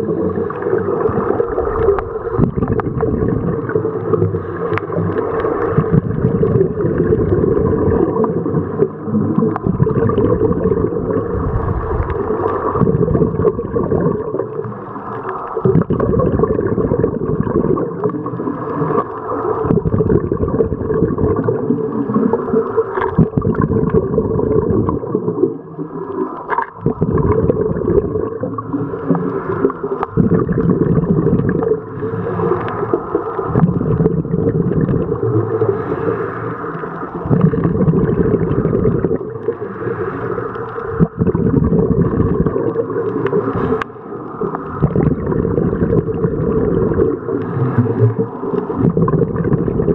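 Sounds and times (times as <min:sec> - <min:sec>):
muffled underwater rushing: 0:00.0 - 0:49.9.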